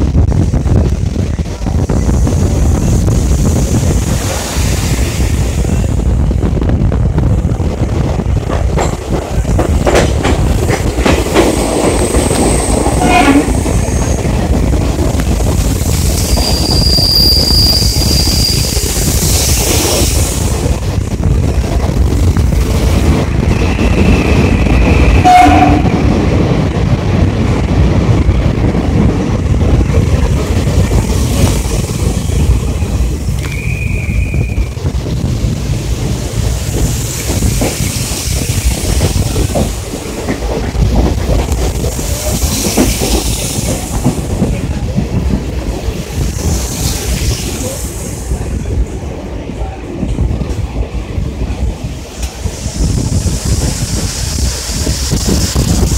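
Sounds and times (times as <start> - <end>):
rushing air: 0.0 - 55.9
train wheels rumbling on rails: 0.0 - 55.9.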